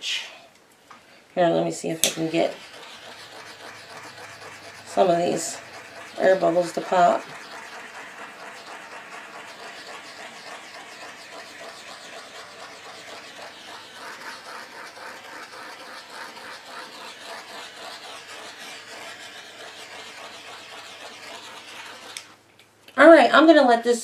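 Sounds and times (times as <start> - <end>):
torch flame hissing: 2.0 - 22.3.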